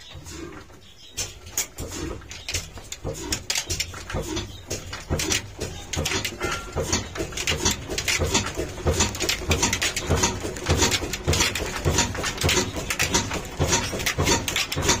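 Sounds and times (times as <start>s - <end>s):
stationary engine exhaust beats: 0.0s - 15.0s.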